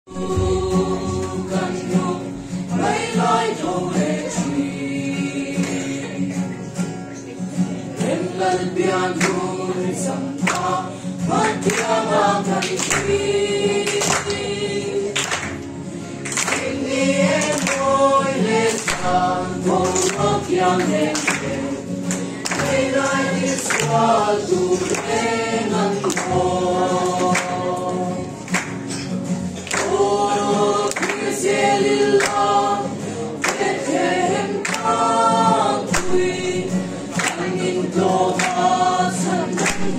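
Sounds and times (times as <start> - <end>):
group singing a carol: 0.1 - 39.9.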